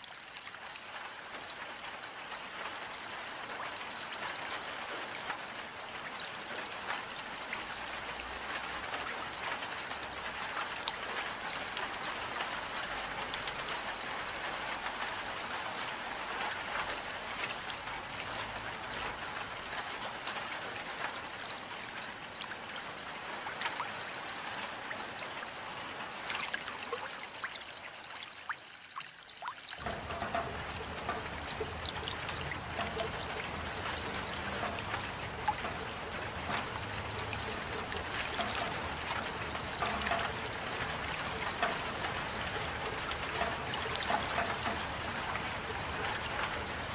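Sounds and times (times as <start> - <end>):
rain falling: 0.0 - 46.9.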